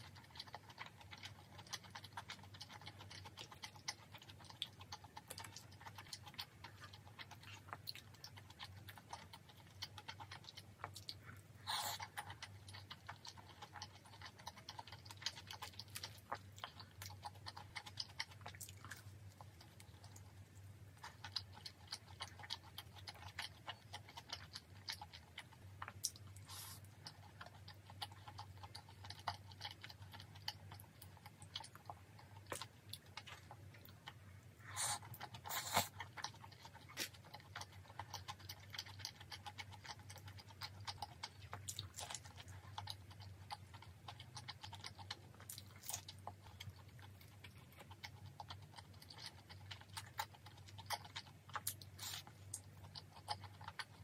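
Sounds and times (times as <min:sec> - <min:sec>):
close chewing mouth clicks: 0:00.0 - 0:54.0
faint low hum: 0:00.0 - 0:54.0.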